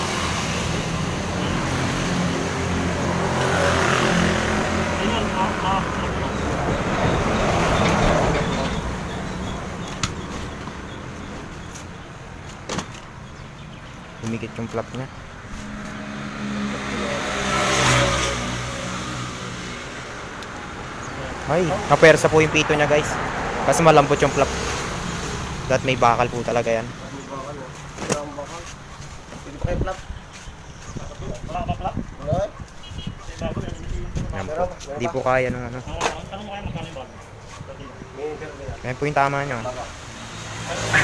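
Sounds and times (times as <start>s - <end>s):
vehicle engine with road noise: 0.0s - 41.0s.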